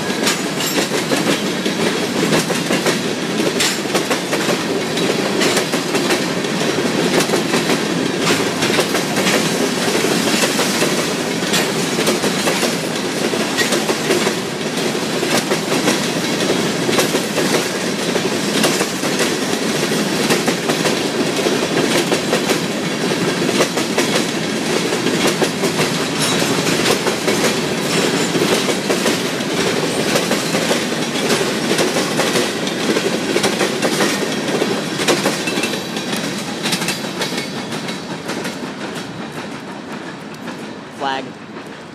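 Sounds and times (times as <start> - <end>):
wheels clicking over rail joints: 0.0 - 40.8
train rolling on track: 0.0 - 41.9.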